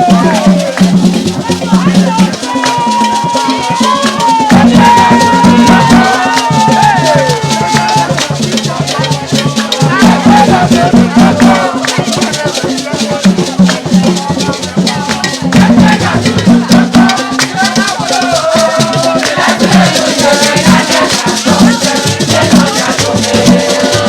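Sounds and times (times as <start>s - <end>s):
drums: 0.0s - 24.0s
loud group singing: 0.0s - 24.0s
rapid shaker rattles: 0.0s - 24.0s.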